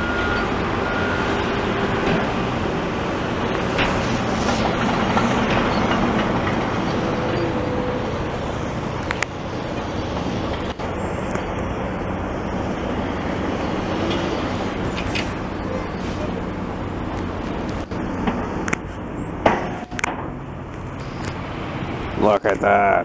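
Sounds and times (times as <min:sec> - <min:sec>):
heavy diesel machinery droning: 0:00.0 - 0:22.5.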